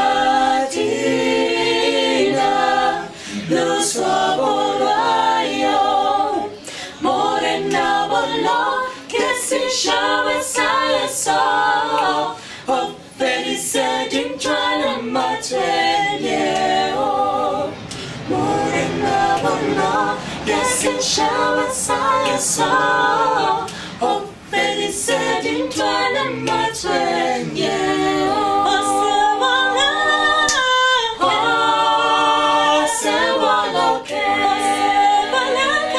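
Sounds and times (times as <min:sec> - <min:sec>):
mixed choir singing a cappella: 0:00.0 - 0:35.9.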